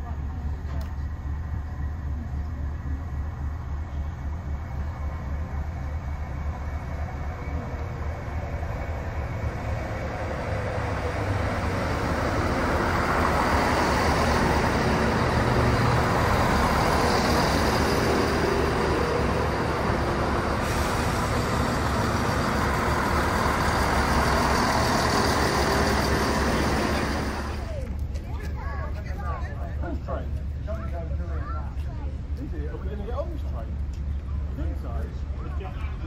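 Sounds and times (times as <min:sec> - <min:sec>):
diesel train running: 0:00.0 - 0:36.0.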